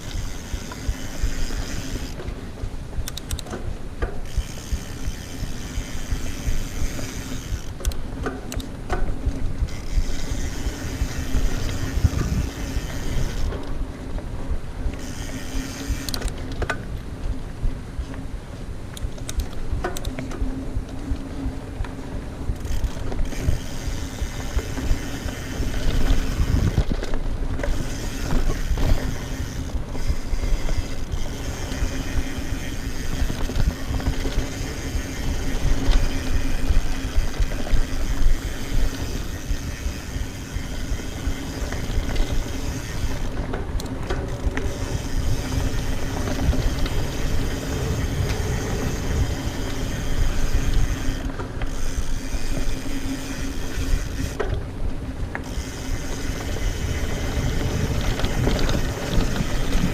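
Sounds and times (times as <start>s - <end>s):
bike tyres on dirt trail: 0.0s - 59.9s.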